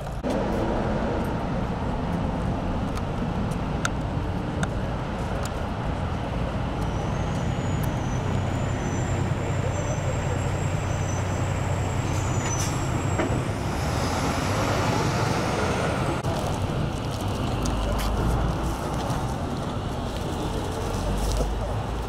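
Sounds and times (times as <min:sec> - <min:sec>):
low engine rumble: 0:00.0 - 0:22.0
road noise: 0:00.0 - 0:22.0.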